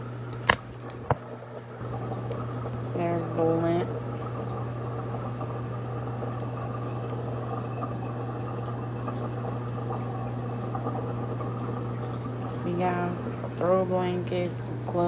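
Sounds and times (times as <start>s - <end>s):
drain pump hum: 0.0s - 15.0s
water gushing into sink: 0.3s - 15.0s.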